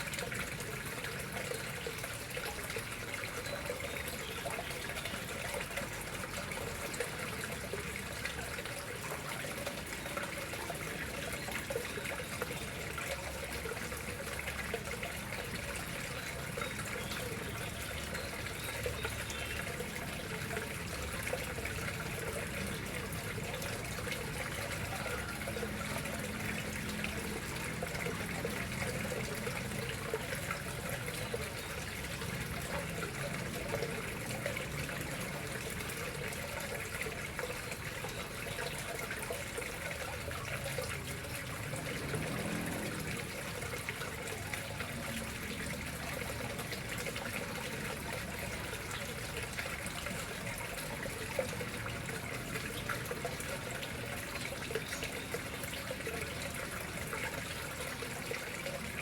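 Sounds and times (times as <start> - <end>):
water trickling into pond: 0.0 - 59.0.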